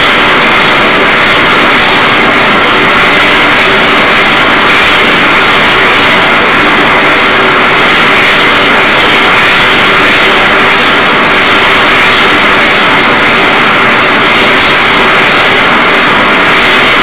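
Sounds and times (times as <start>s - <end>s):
blowtorch flame hissing: 0.0s - 17.0s.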